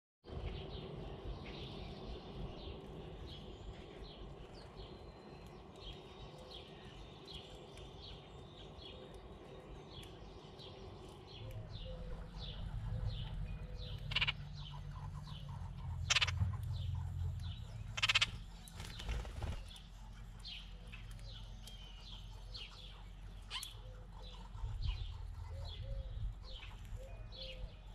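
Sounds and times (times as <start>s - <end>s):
low rumble: 0.3s - 27.9s
harsh buzzy bird calls: 0.8s - 27.9s.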